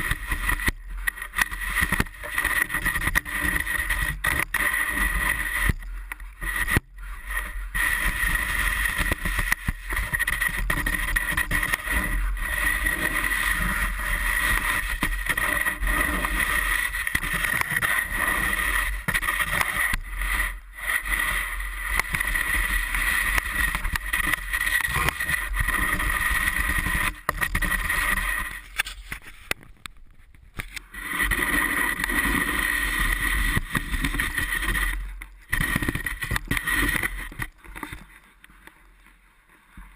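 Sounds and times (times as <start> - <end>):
steady high whine: 0.0 - 39.9.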